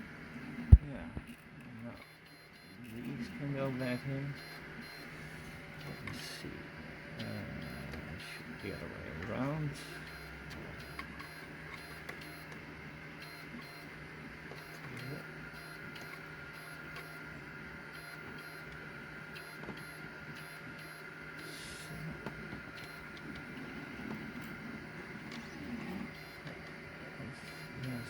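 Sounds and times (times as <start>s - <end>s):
steady machine hum: 0.0s - 28.0s.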